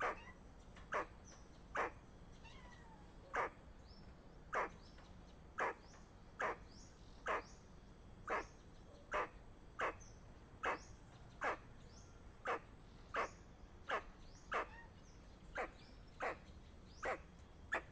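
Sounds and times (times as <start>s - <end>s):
squirrel alarm call: 0.0s - 5.0s, 5.6s - 7.6s, 8.2s - 17.9s.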